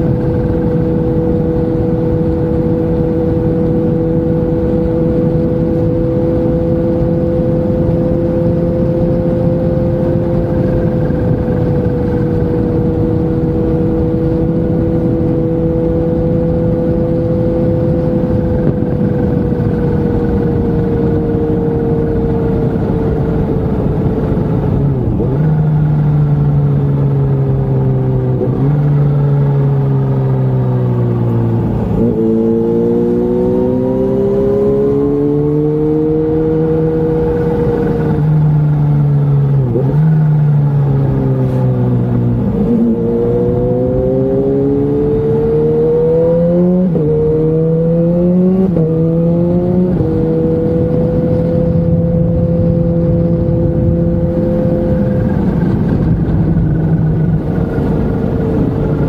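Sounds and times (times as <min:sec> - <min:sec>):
motorcycle engine cruising: 0:00.0 - 0:59.0
wind rush: 0:00.0 - 0:59.0.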